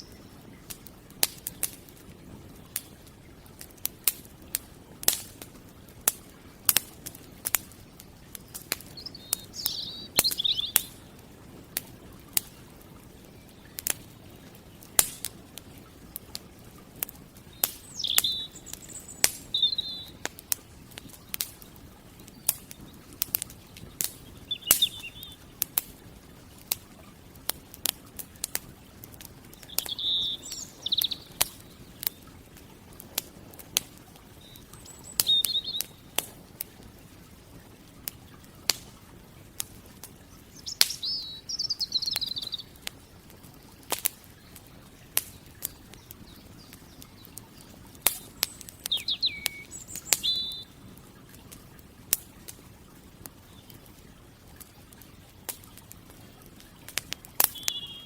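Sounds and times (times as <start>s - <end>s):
birds chirping: 0.0s - 3.8s, 7.1s - 27.2s, 28.7s - 36.5s, 37.3s - 51.2s, 56.8s - 58.0s
campfire crackling: 0.0s - 58.0s.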